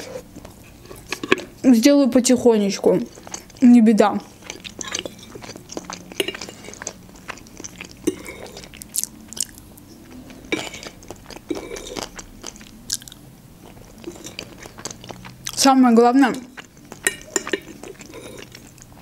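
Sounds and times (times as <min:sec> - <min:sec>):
person chewing: 0:03.0 - 0:19.0.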